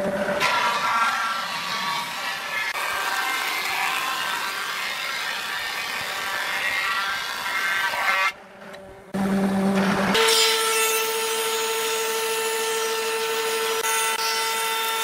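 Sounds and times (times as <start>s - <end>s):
planer cutting wooden board: 0.4s - 8.4s, 9.2s - 15.0s.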